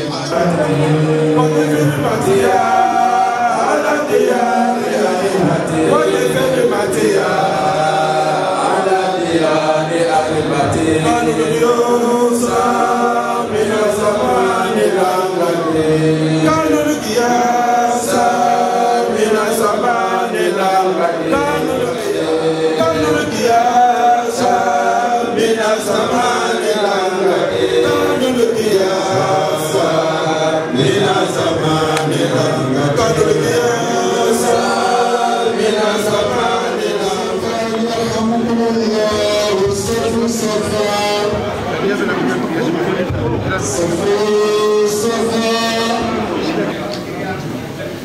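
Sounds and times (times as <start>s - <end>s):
voices chanting together: 0.0s - 47.0s.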